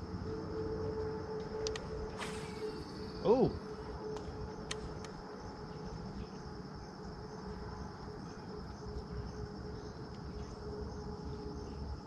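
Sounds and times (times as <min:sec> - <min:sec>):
faint steady hum: 0:00.0 - 0:12.0
insects trilling: 0:00.0 - 0:12.0.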